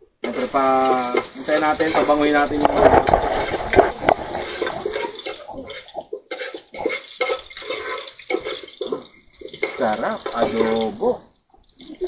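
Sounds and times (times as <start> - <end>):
ginger sizzling in hot oil: 0.0 - 12.0
metal spoon scraping pot: 0.2 - 11.2.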